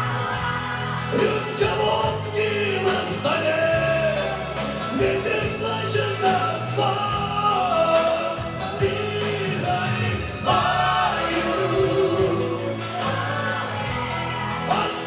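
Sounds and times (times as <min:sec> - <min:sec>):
backing track music: 0:00.0 - 0:15.0
man singing into microphone: 0:01.1 - 0:13.6, 0:14.6 - 0:15.0.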